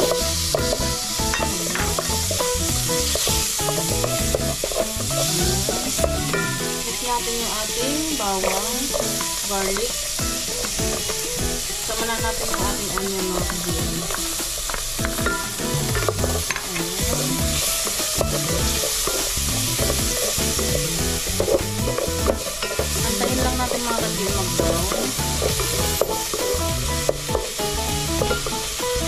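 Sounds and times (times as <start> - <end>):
background music: 0.0 - 29.0
onion and garlic sizzling in a pot: 0.0 - 29.0.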